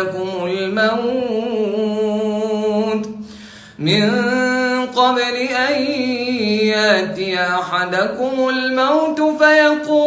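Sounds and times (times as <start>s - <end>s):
solo voice reciting melodically: 0.0s - 10.0s.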